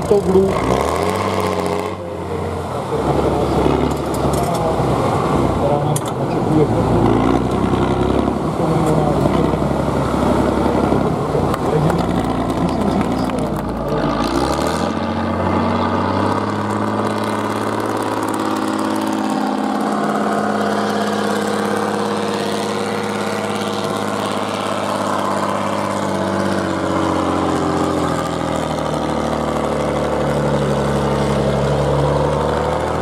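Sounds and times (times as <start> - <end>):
heavy truck engine running: 0.0 - 33.0.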